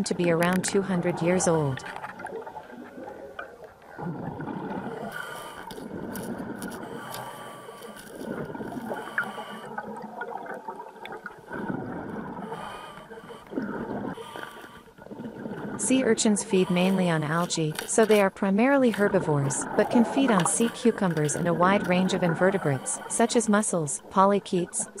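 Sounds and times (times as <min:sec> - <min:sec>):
underwater air bubbles gurgling: 0:00.0 - 0:25.0.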